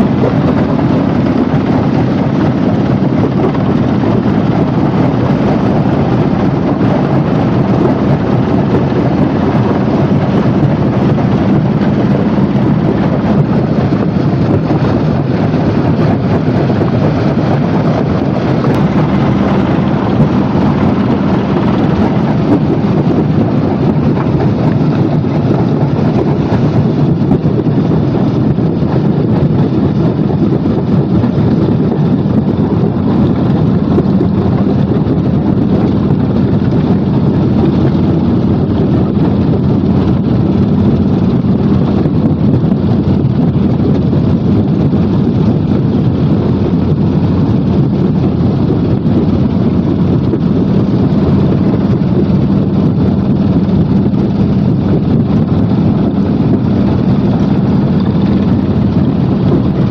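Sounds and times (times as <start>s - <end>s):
heavy machinery rumbling: 0.0s - 59.9s
low hum: 0.0s - 59.9s.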